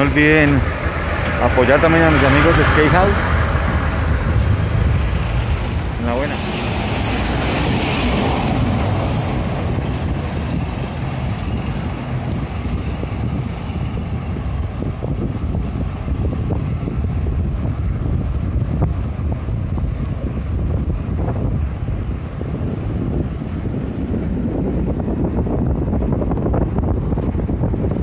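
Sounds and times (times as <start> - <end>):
bicycle tyre and road noise: 0.0 - 28.0
wind rushing over microphone: 0.0 - 28.0.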